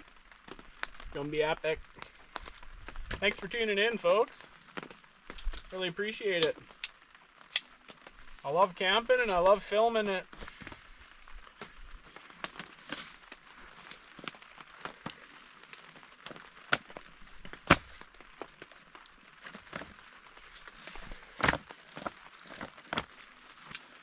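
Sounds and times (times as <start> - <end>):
rain tapping on tent fabric: 0.0 - 24.0
faint hiss: 0.9 - 22.6.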